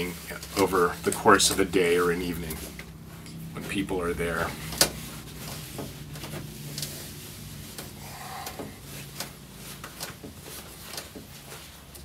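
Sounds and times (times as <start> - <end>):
cloth rubbing on glass: 0.0 - 12.0.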